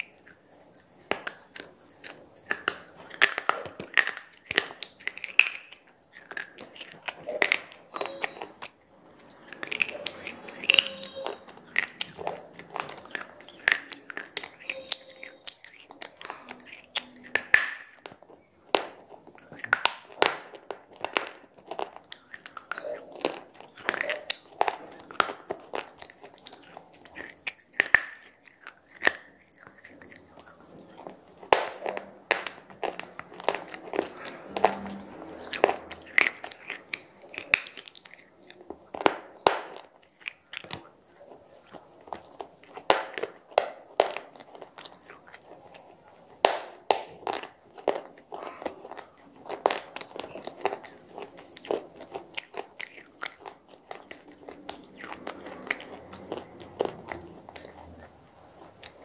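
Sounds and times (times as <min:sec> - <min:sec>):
chewing crunchy slate: 0:00.0 - 0:59.0.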